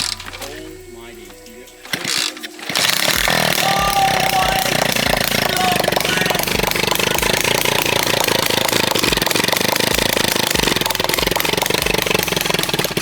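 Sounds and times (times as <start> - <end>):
dirt bike engine rattling: 0.0 - 13.0.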